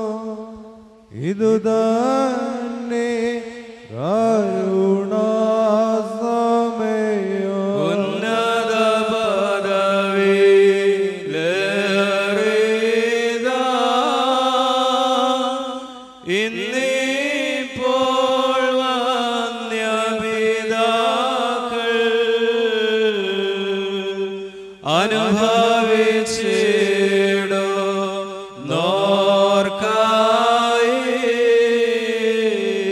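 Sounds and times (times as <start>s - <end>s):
liturgical chant: 0.0s - 32.9s.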